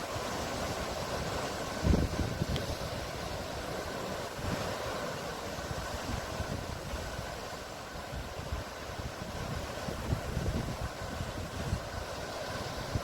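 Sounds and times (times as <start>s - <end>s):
surf washing: 0.0s - 13.0s
wind rumbling on microphone: 0.0s - 13.0s.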